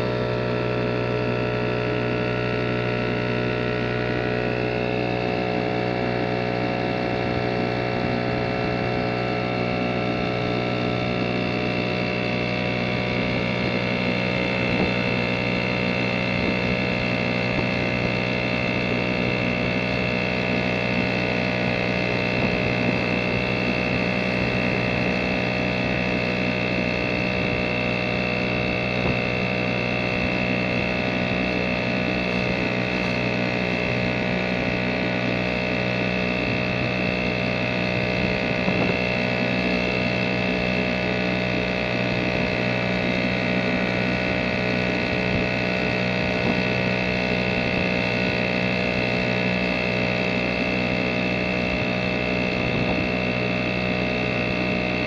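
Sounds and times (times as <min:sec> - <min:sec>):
two-stroke outboard motor running: 0:00.0 - 0:55.0.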